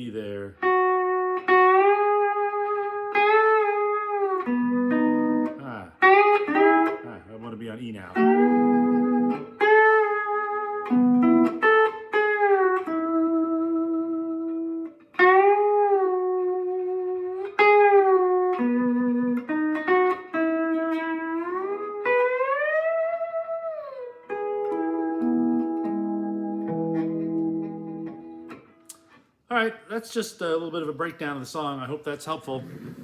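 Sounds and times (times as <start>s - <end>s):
lap steel guitar slide melody: 0.6s - 29.2s.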